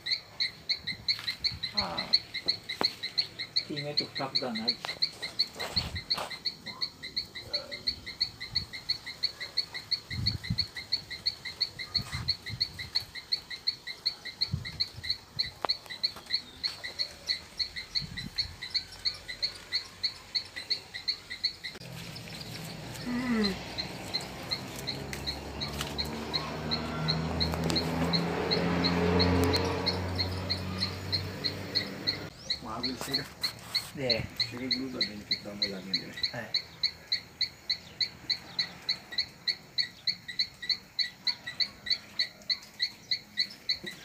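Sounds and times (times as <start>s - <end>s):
animal chirping: 0.0s - 44.0s.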